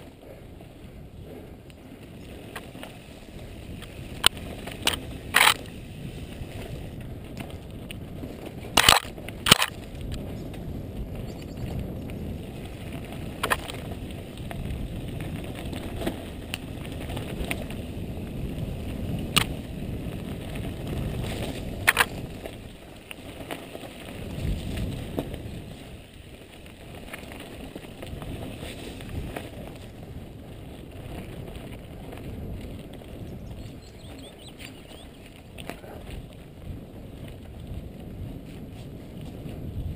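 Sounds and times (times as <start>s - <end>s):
bike clacking over bumps: 0.0s - 39.9s
bike tyres rolling on dirt: 0.0s - 39.9s.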